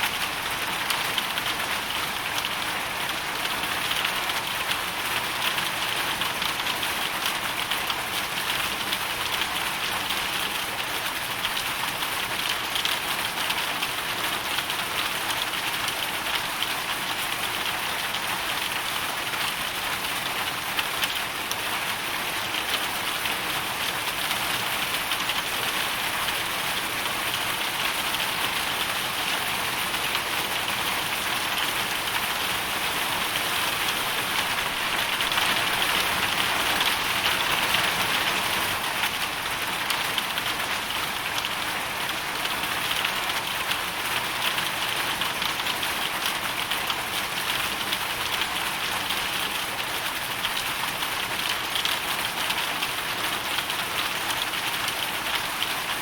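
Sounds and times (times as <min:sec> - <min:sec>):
hail and rain striking a surface: 0:00.0 - 0:56.0.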